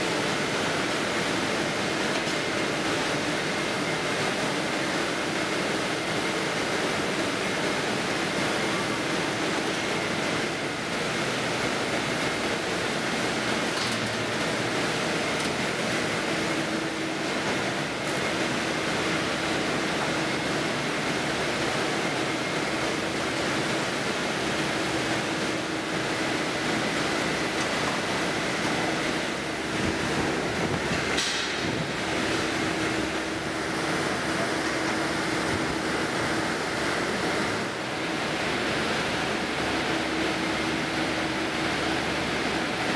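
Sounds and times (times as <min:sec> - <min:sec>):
rushing machinery noise: 0:00.0 - 0:42.9.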